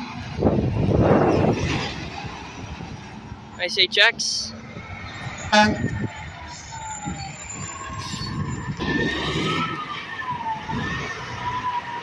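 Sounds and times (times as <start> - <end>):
road traffic with trucks: 0.0 - 12.0.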